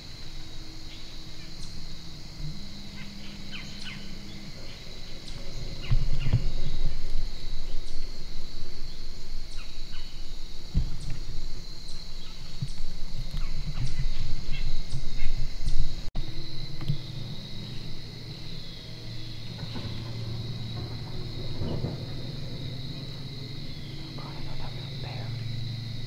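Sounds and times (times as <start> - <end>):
bird chirps: 0.0 - 26.0
high insect drone: 0.0 - 26.0
low rumbling microphone noise: 0.0 - 26.0.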